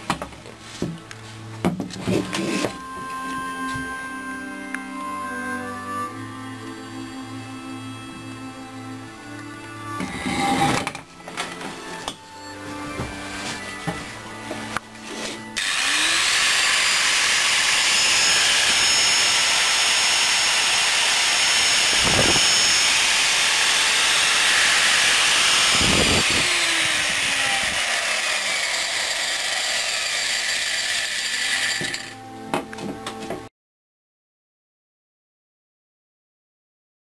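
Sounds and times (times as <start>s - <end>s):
angle grinder whining: 2.1s - 32.3s.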